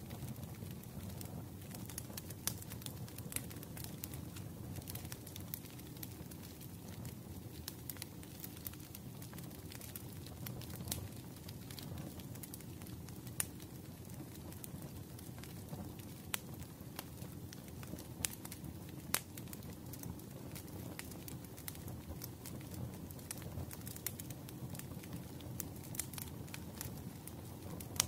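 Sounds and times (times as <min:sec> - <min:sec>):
firewood crackling and snapping: 0:00.0 - 0:28.0.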